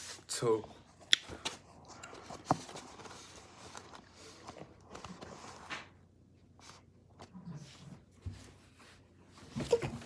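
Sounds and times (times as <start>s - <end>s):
faint rustling and handling: 0.0s - 10.0s.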